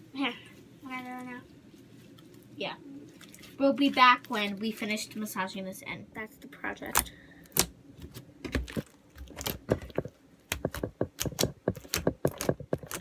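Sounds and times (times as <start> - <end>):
foam-bead slime crackling: 0.8 - 5.2, 6.8 - 13.0.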